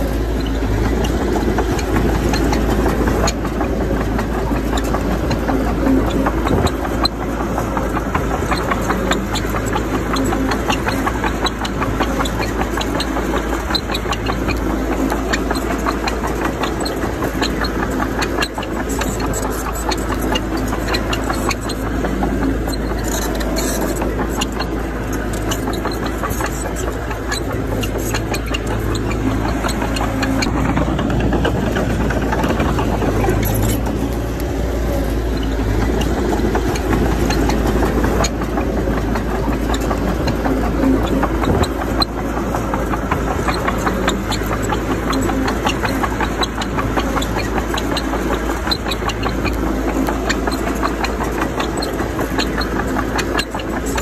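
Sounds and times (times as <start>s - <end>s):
heavy machinery engine running: 0.0s - 54.0s
small clicks and rattles: 0.0s - 54.0s.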